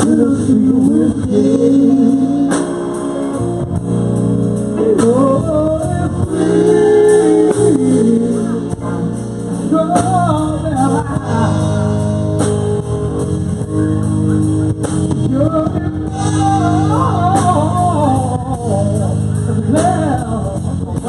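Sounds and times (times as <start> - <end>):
man singing: 0.0 - 3.7, 4.7 - 12.6, 13.6 - 21.0
live rock band: 0.0 - 21.0.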